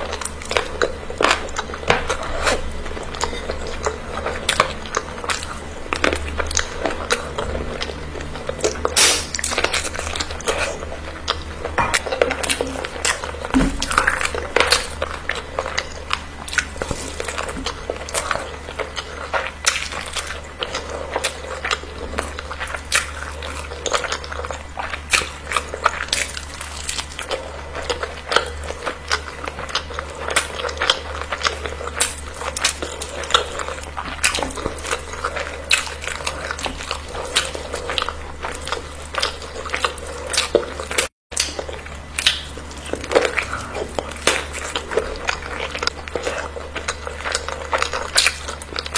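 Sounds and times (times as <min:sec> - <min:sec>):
person chewing food: 0:00.0 - 0:48.9
steady low hum: 0:00.0 - 0:48.9.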